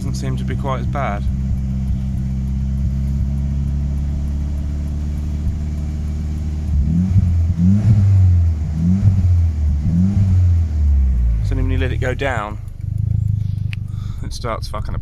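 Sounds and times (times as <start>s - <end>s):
van engine misfiring: 0.0s - 15.0s.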